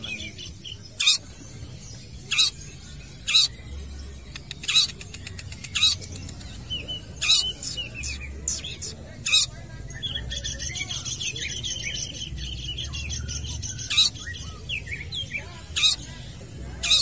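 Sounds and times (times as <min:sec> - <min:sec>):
bird harsh calls: 0:00.0 - 0:17.0.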